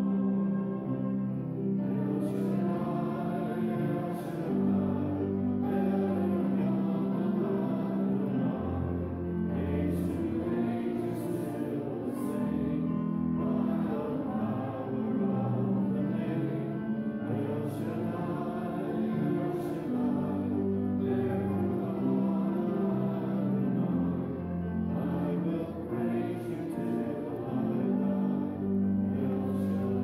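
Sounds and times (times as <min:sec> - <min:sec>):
congregation singing a hymn: 0:00.0 - 0:30.0
sustained low accompanying notes: 0:00.0 - 0:30.0.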